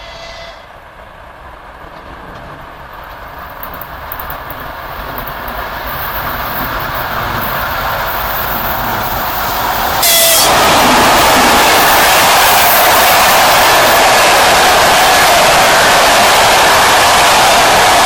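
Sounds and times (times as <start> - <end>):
train rumble and rail noise: 0.0 - 18.0.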